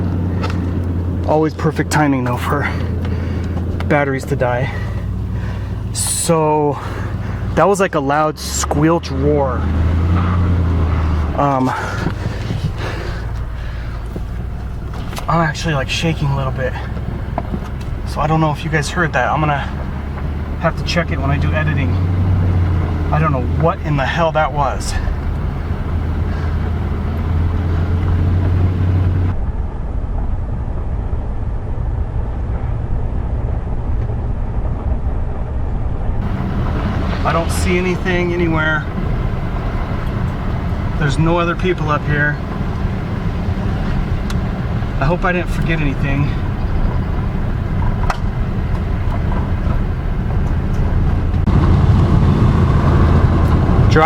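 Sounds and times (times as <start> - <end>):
truck engine running: 0.0 - 29.4, 31.9 - 54.0.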